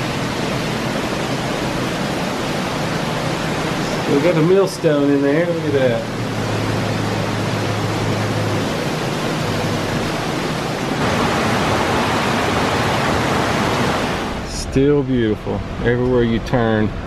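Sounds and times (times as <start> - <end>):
rushing water hiss: 0.0 - 16.9.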